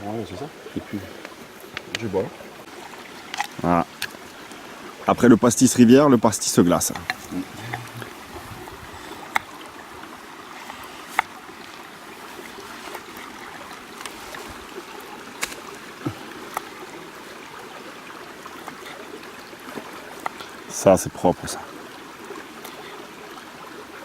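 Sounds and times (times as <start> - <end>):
stream flowing: 0.0 - 24.0.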